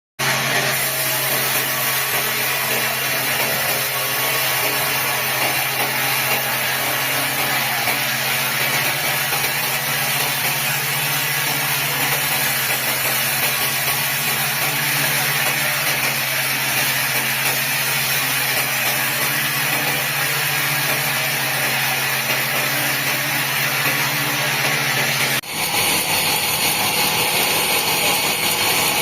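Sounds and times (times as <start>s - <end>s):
sawmill machinery running: 0.2s - 29.0s.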